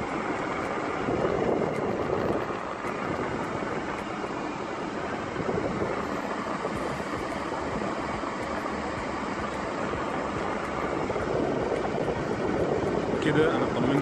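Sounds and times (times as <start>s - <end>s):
car blower fan rushing air: 0.0s - 14.0s.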